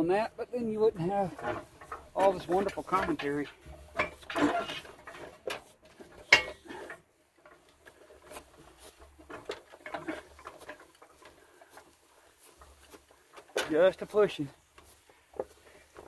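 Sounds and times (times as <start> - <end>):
metal frame clicks and rattles: 1.0 - 16.0.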